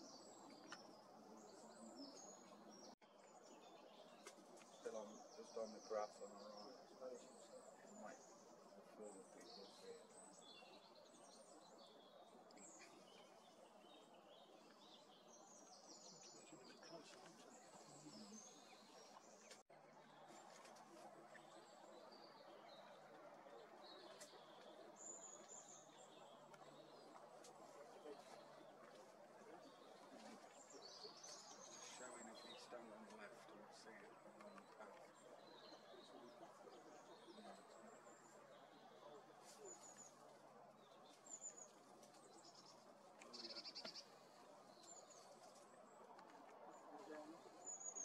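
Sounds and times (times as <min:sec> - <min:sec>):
distant small birds calling: 0:00.0 - 0:48.0.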